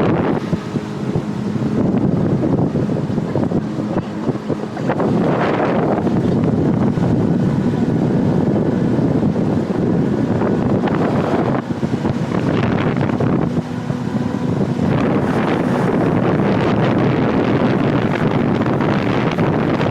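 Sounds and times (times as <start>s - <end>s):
boat motor: 0.0s - 19.9s
water: 0.0s - 19.9s
wind buffeting microphone: 0.0s - 19.9s.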